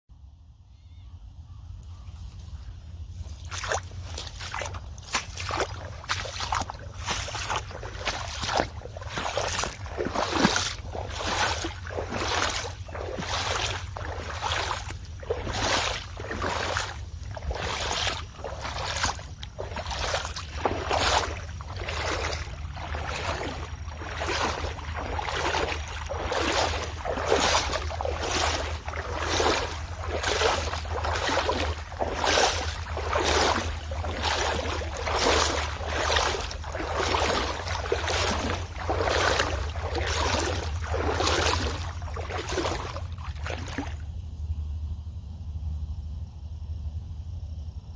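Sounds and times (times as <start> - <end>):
steady low rumble: 1.2 - 47.9
footsteps splashing in water: 2.2 - 44.2.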